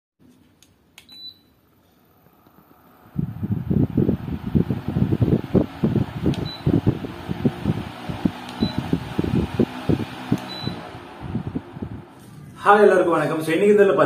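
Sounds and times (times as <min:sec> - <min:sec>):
fan airflow buffeting microphone: 0:02.0 - 0:14.0.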